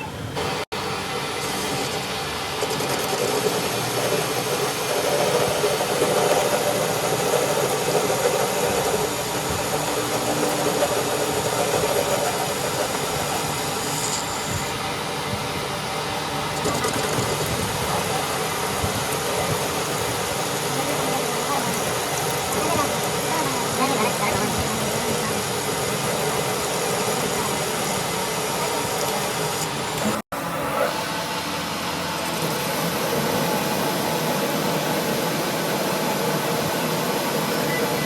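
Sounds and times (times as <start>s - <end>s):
workshop machinery running: 0.0s - 38.0s.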